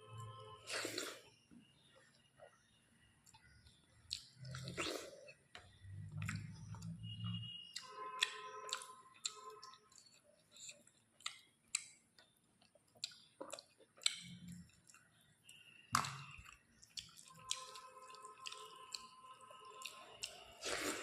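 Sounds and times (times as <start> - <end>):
chewing and wet mouth sounds: 2.1 - 21.0.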